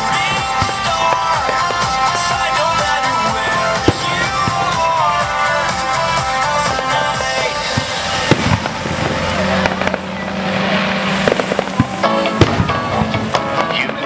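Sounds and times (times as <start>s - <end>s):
firework crackle: 0.0s - 14.0s
firework shells bursting: 0.0s - 14.0s
music: 0.0s - 14.0s.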